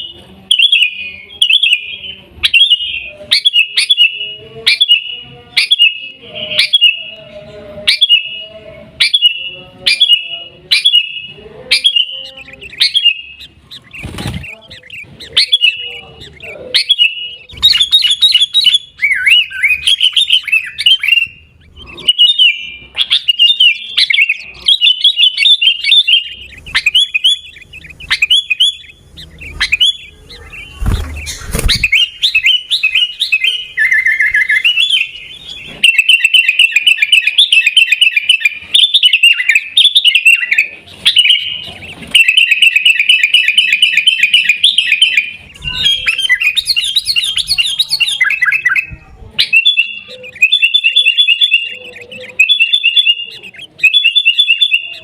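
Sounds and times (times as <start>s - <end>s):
bulbul chirping: 7.9s - 55.0s.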